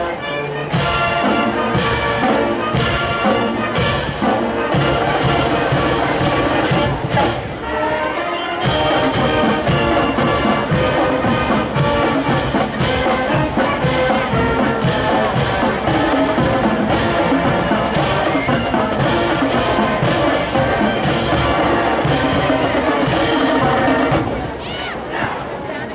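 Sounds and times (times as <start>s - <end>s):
brass horns playing tune: 0.0s - 24.5s
marching drum beat: 0.7s - 7.9s, 8.6s - 24.6s.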